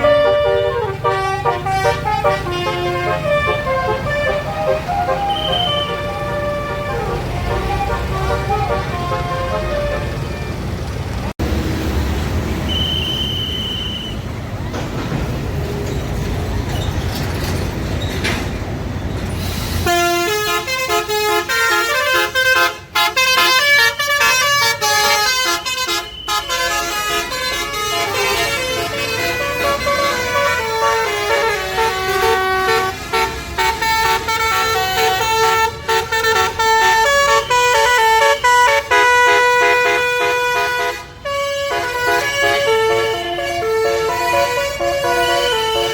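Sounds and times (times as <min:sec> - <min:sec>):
bus horn playing a tune: 0:00.0 - 0:10.8, 0:12.7 - 0:14.2, 0:19.8 - 0:45.9
road and engine rumble: 0:00.0 - 0:45.9.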